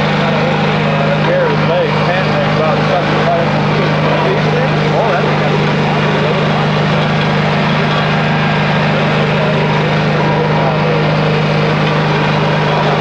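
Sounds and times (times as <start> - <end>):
vacuum excavator droning: 0.0 - 13.0.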